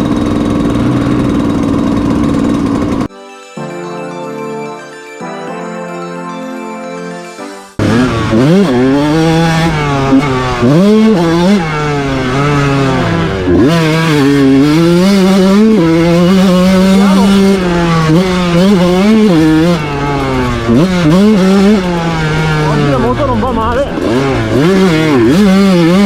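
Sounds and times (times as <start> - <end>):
motocross bike engine: 0.0 - 3.1, 7.8 - 26.0.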